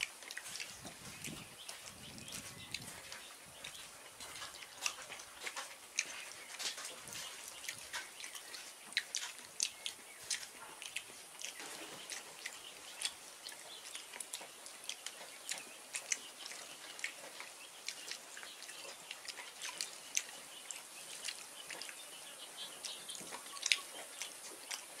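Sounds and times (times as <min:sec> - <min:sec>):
wet chewing and smacking: 0:00.0 - 0:25.0.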